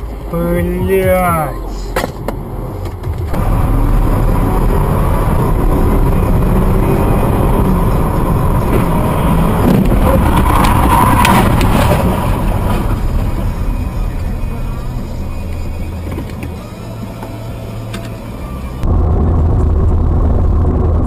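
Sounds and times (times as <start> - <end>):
car engine and tyre noise: 0.0 - 21.0.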